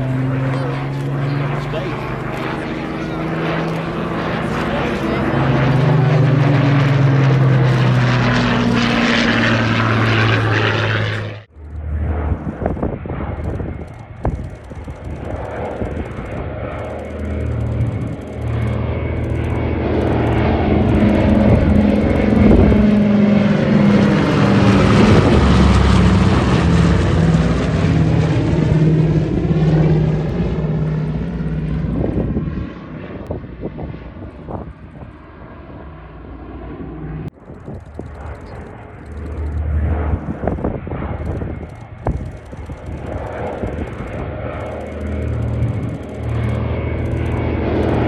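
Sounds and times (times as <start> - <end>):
propeller aircraft flying past: 0.0 - 48.0.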